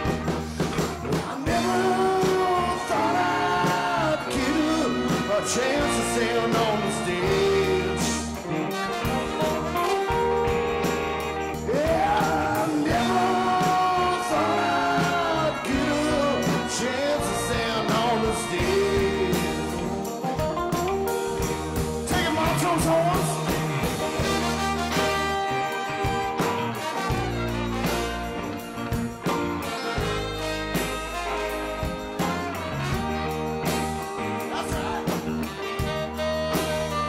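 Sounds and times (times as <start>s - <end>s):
soul band playing: 0.0s - 37.0s.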